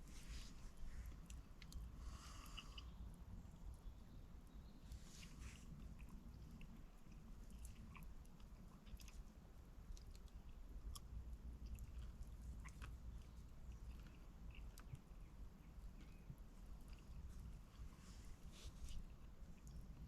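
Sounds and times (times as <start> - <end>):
faint small clicks and crackles: 0.0 - 20.0
low steady rumble: 0.0 - 20.0.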